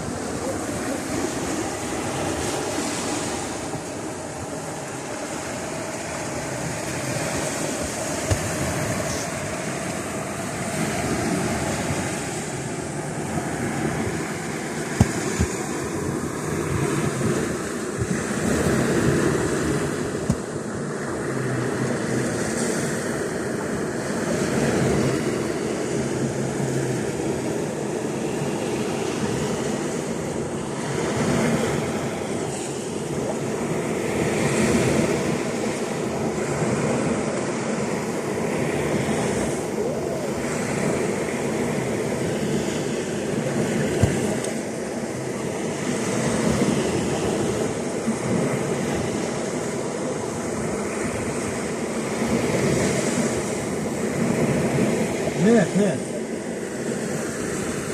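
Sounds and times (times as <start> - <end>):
wind rumbling on microphone: 0.0 - 55.5
sea surf washing: 0.0 - 57.9.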